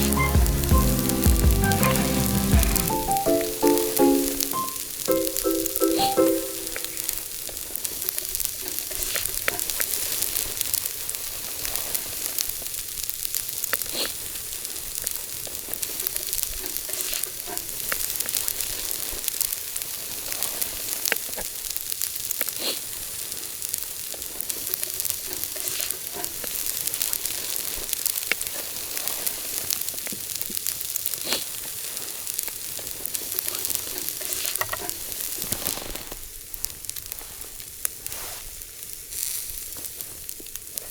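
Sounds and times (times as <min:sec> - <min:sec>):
food sizzling in a pan: 0:02.0 - 0:40.9
sharp pops and crackles: 0:06.8 - 0:40.9.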